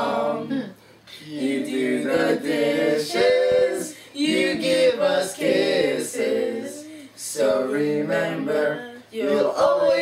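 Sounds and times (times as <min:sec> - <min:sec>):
children singing a cappella: 0:01.3 - 0:10.0.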